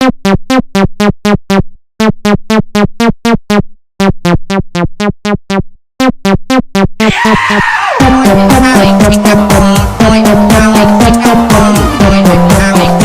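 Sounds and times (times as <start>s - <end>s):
synthesizer ringtone melody: 0.3s - 13.0s.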